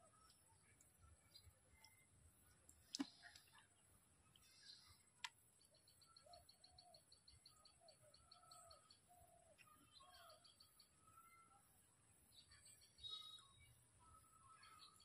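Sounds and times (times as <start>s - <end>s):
faint birds calling: 0.0s - 15.0s.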